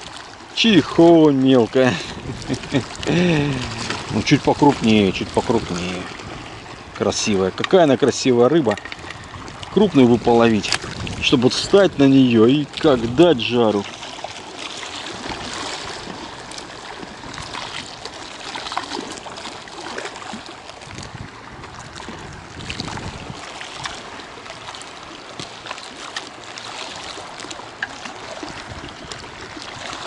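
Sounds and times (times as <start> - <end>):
small waves lapping and splashing: 0.0 - 30.0.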